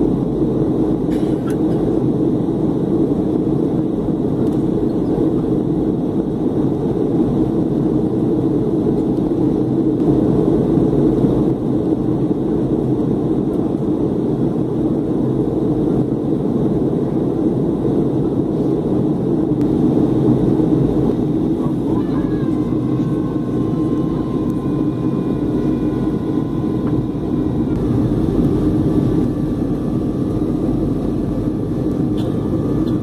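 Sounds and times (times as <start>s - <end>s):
airplane cabin engine drone: 0.0s - 33.0s.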